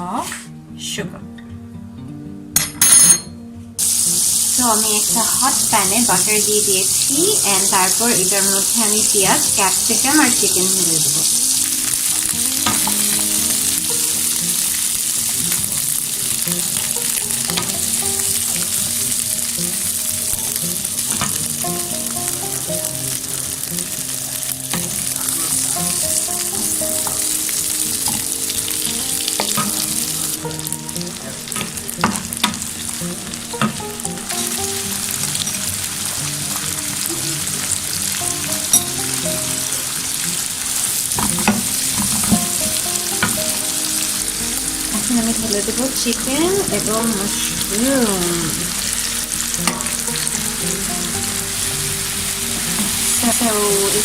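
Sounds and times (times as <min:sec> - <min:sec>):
food sizzling in a pan: 0:03.8 - 0:54.0.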